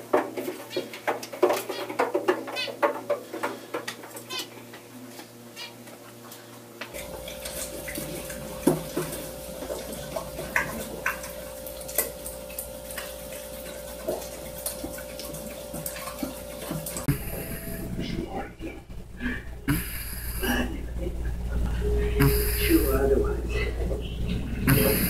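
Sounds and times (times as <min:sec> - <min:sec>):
steady hum: 0:03.3 - 0:25.0.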